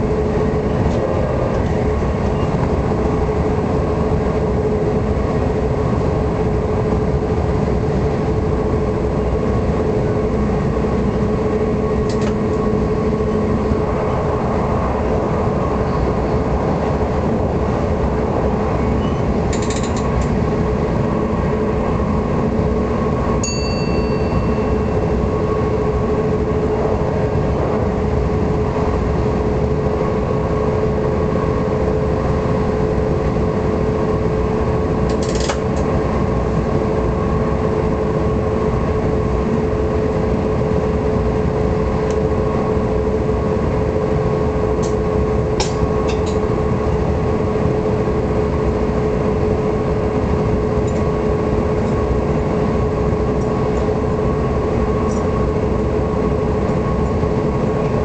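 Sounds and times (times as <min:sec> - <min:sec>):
constant electric hum: 0:00.0 - 0:58.0
train wheels rumbling on rail: 0:00.0 - 0:58.0.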